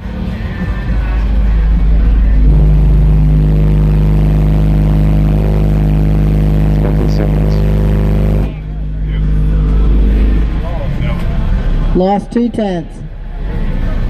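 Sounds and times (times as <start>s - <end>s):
deep bass tone from subwoofers: 0.0s - 14.0s.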